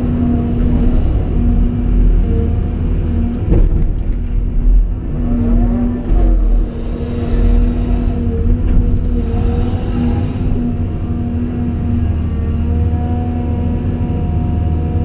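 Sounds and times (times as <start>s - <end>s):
excavator engine and hydraulics: 0.0s - 15.0s.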